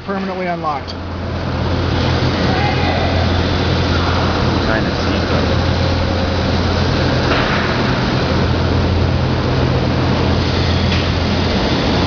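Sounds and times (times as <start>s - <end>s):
machine running: 0.0s - 12.0s
low hum: 0.8s - 12.0s.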